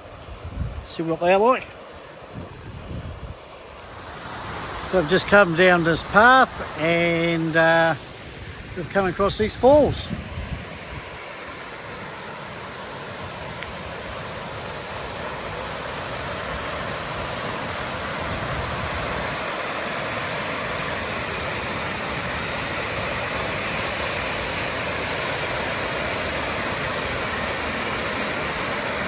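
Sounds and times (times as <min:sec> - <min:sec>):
waterfall pouring: 0:03.8 - 0:29.0.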